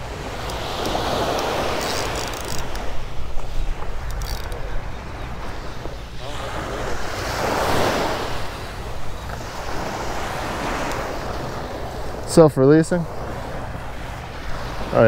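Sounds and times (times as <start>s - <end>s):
small surf on sand: 0.0s - 15.0s
wind rumbling on microphone: 0.0s - 15.0s.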